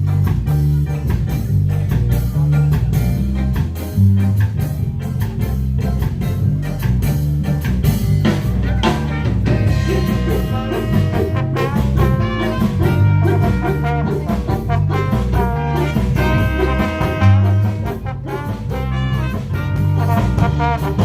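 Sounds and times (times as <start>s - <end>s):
jazz music with brass and drums: 0.0s - 21.0s.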